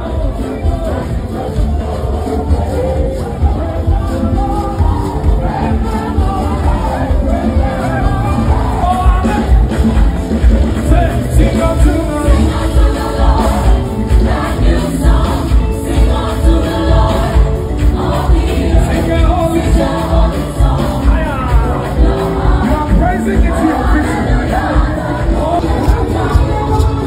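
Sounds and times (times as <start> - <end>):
choir singing: 0.0 - 27.0
live gospel music: 0.0 - 27.0.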